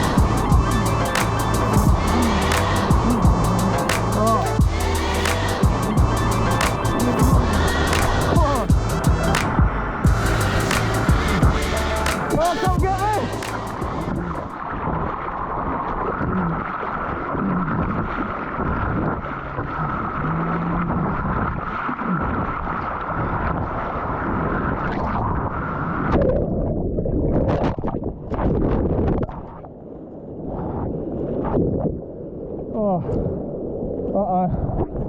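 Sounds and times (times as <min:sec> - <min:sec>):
wind on microphone: 0:00.0 - 0:29.6.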